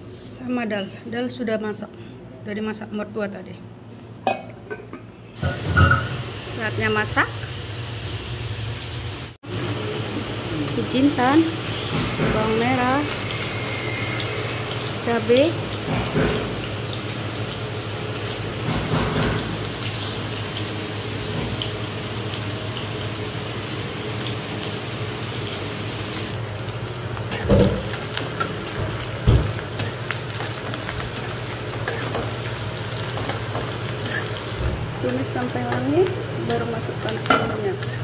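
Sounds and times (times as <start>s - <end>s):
food sizzling in hot oil: 5.4s - 38.0s.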